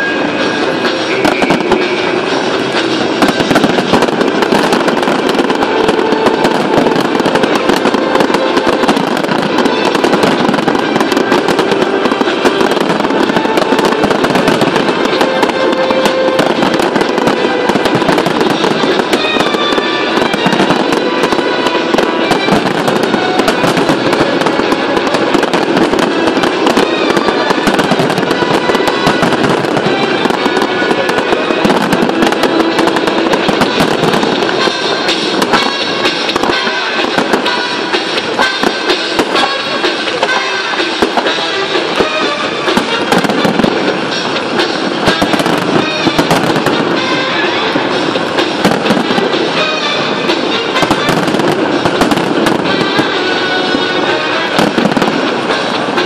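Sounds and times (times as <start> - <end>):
fireworks crackling and banging: 0.0 - 56.0
music playing: 0.0 - 56.0.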